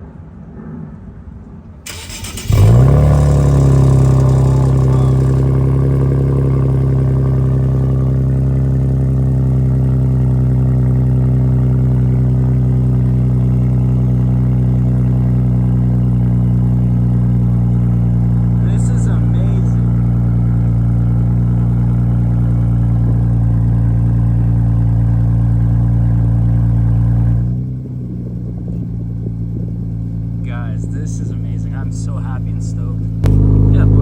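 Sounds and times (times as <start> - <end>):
car engine starting and idling: 1.4 - 34.0.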